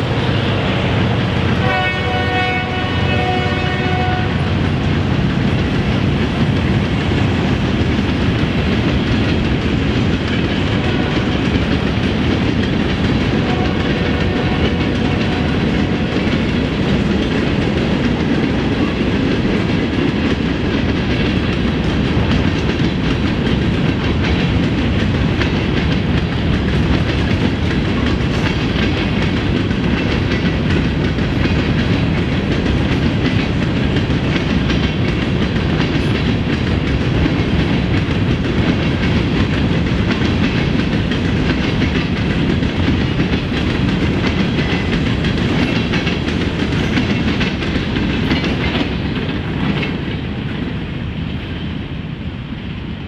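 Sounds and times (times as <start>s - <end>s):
freight train rolling past: 0.0s - 53.0s.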